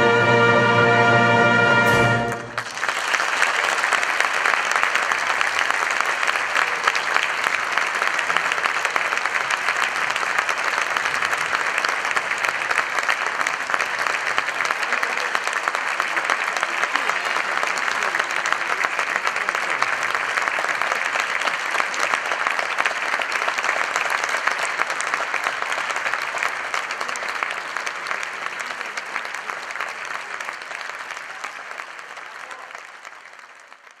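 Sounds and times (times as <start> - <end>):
audience applauding: 0.0 - 34.0.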